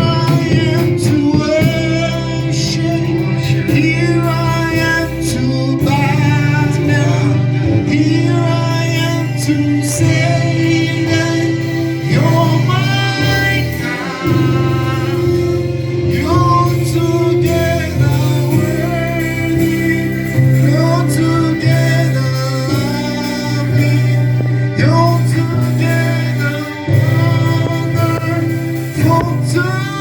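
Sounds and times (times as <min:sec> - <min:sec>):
instrumental backing with bass notes: 0:00.0 - 0:30.0
voices singing gospel song: 0:00.0 - 0:30.0.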